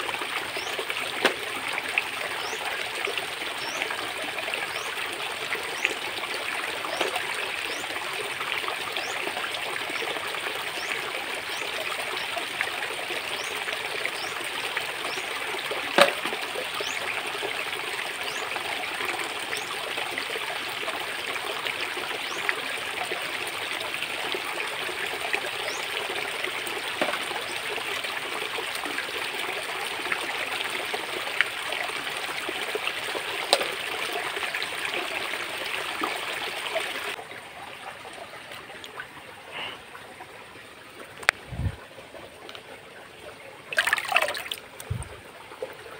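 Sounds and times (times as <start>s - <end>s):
stream trickling over stones: 0.0s - 45.9s.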